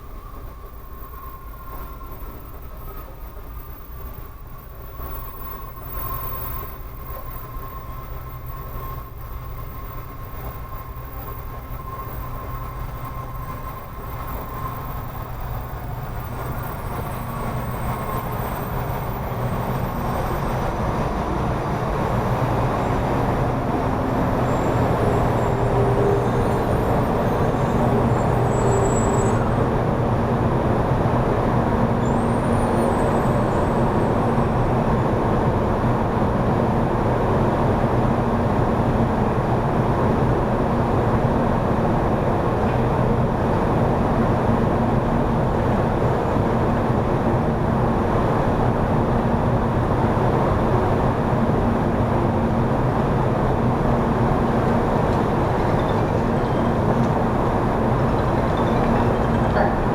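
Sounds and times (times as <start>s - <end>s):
high speed train rumbling: 0.0s - 59.9s.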